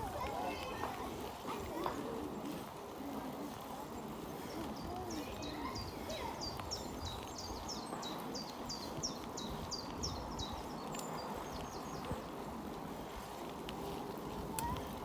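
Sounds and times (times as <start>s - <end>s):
bicycle rolling: 0.0s - 15.0s.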